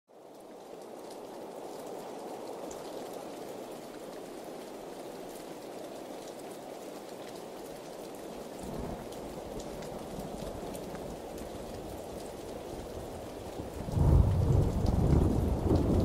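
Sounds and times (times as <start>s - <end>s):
heavy rain falling: 0.1s - 16.0s.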